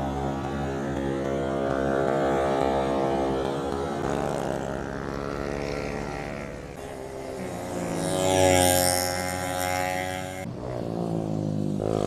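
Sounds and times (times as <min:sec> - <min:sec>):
motorcycles riding past: 0:00.0 - 0:12.0.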